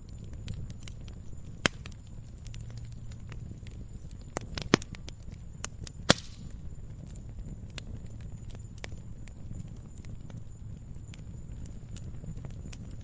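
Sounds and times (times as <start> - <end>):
firewood burning and crackling: 0.0 - 13.0.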